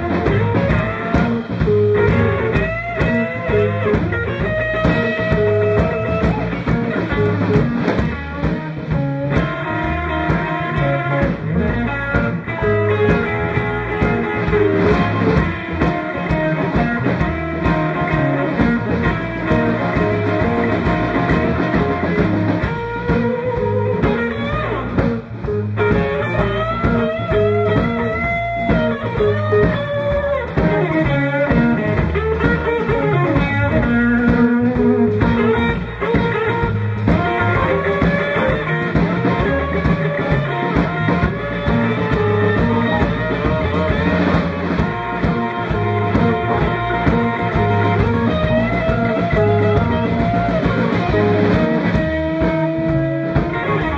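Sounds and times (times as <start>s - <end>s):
drum kit: 0.0s - 53.9s
electric bass: 0.0s - 53.9s
electric guitar lead: 0.0s - 53.9s.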